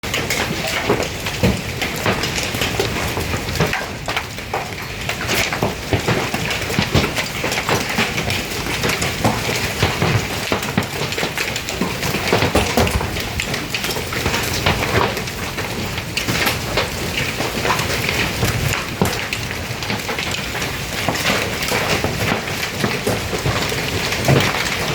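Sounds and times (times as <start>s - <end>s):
hail clattering on hard surfaces: 0.0s - 24.9s.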